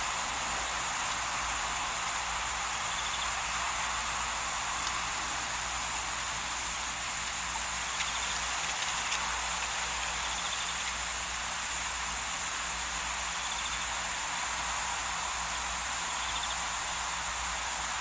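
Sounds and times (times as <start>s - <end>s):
insects chirring: 1.0s - 17.8s.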